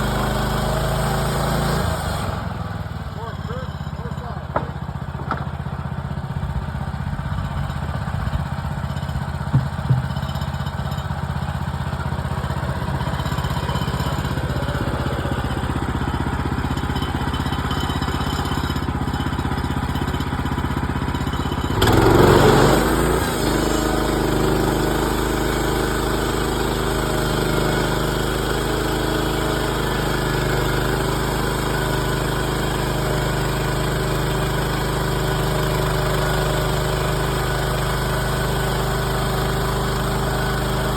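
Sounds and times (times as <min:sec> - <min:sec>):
sawmill gas engine running: 0:00.0 - 0:40.9.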